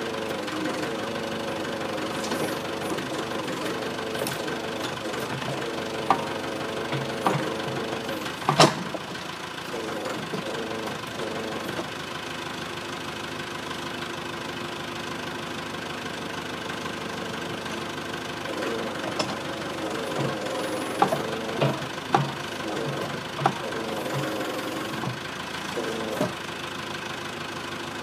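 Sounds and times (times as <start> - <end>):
backhoe diesel engine running: 0.0 - 28.0.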